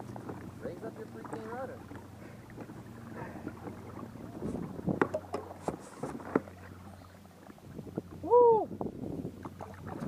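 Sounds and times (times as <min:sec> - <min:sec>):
waves lapping against kayak hull: 0:00.0 - 0:10.0.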